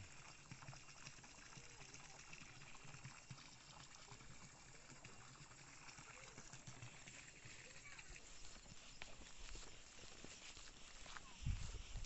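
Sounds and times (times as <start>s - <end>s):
soft trickle of water: 0.0s - 12.0s.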